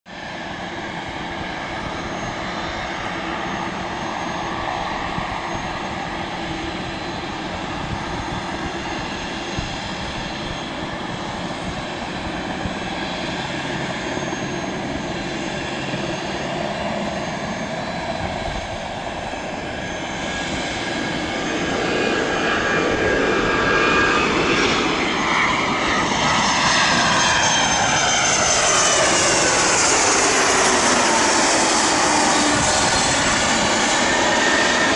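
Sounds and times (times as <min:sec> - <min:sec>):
jet engines whining: 0:00.1 - 0:34.9.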